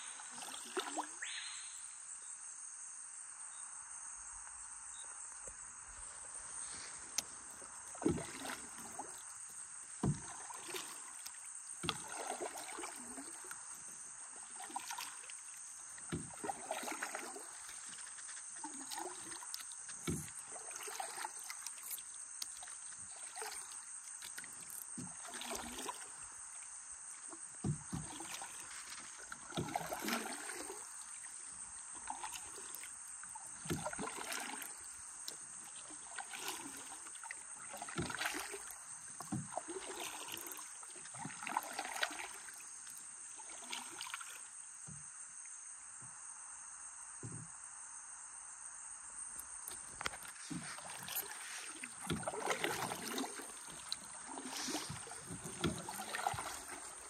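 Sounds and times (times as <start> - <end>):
paddles splashing in water: 0.0 - 1.7, 6.0 - 44.6, 49.7 - 57.0
insects droning: 0.0 - 57.0.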